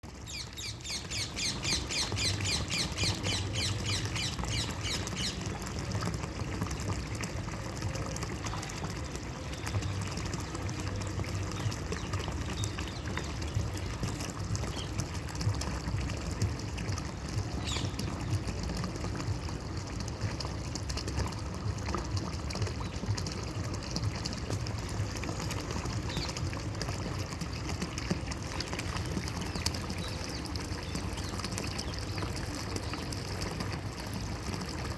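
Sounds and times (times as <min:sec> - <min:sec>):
water flowing and pouring: 0:00.0 - 0:34.9.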